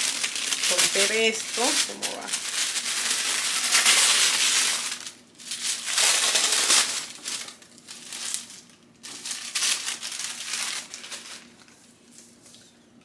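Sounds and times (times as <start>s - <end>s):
paper wrapping crinkling: 0.0s - 12.8s.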